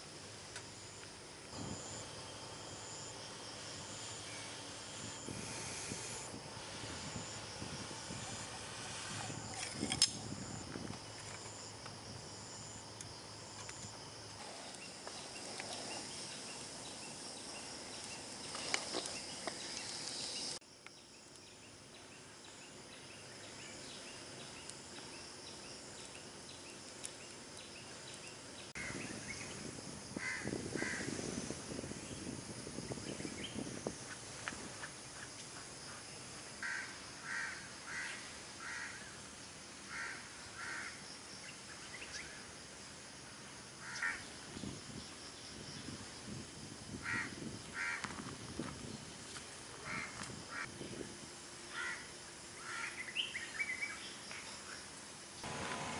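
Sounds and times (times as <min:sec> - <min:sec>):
steady high hiss: 0:00.0 - 0:55.9.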